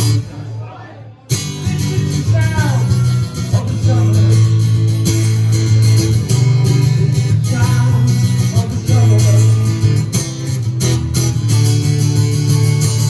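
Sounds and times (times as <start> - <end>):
punk rock band playing: 1.4 - 13.0.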